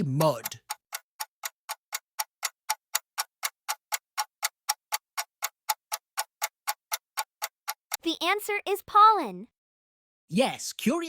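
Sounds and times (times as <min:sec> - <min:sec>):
clock ticking: 0:00.0 - 0:09.5.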